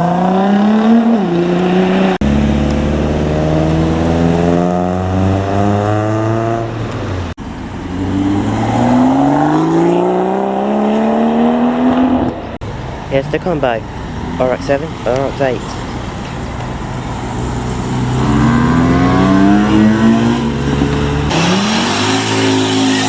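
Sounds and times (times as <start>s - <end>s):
car engines accelerating hard: 0.0s - 23.0s.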